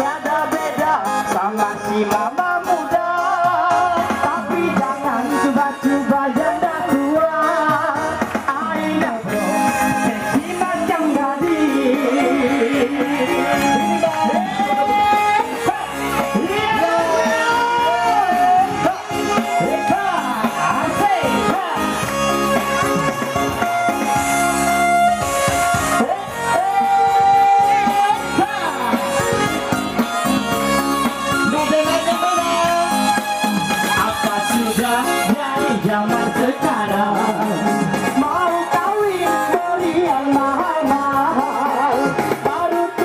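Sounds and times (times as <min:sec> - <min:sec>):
live band music with singing: 0:00.0 - 0:43.0.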